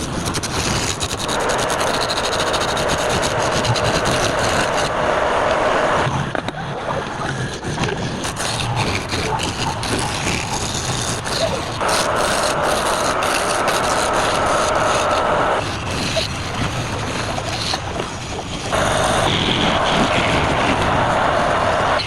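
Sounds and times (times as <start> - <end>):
tool scraping spinning wood: 0.0 - 22.0
wood lathe running: 0.0 - 22.0.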